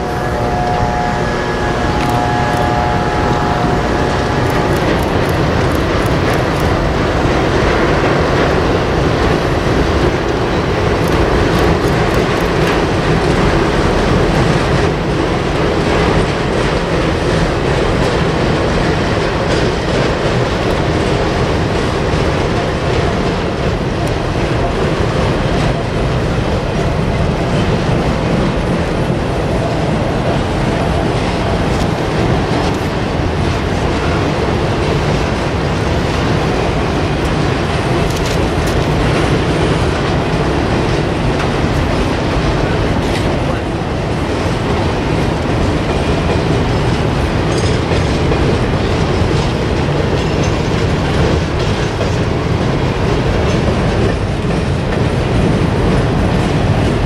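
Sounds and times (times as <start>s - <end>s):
train engine and wheel noise: 0.0s - 57.0s.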